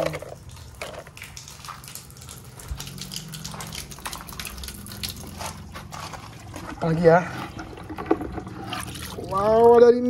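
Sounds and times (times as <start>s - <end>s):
water splashing: 0.0s - 10.0s.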